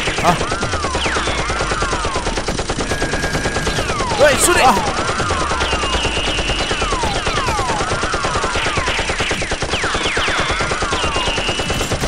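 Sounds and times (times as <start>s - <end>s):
rapid automatic gunfire: 0.0s - 12.0s.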